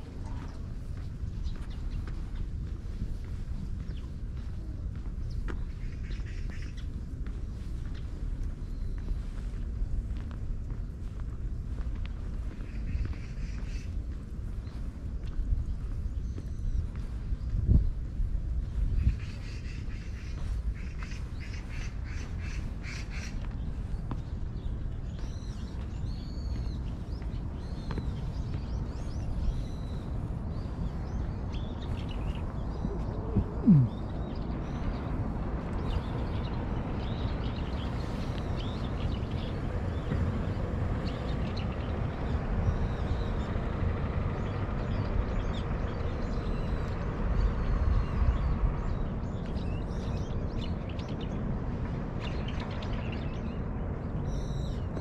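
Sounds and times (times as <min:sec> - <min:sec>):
birds chirping: 0:00.0 - 0:55.0
steady low rumble: 0:00.0 - 0:55.0.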